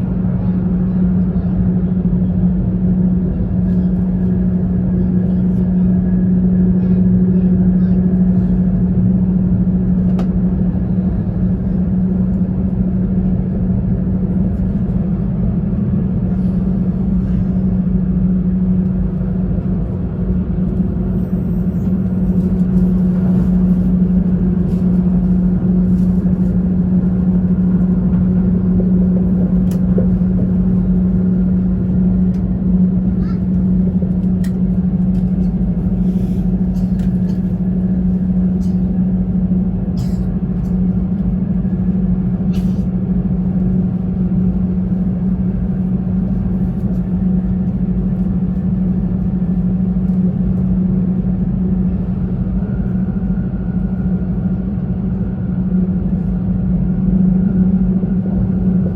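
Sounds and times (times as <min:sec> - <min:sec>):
train cabin rumble: 0:00.0 - 0:58.9.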